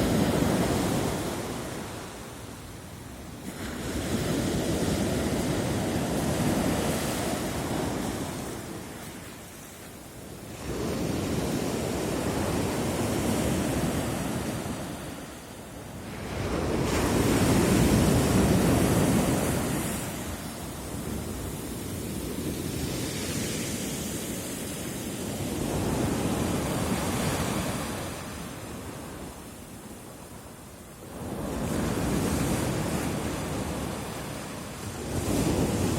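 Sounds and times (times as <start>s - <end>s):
waves breaking on shore: 0.0s - 35.9s.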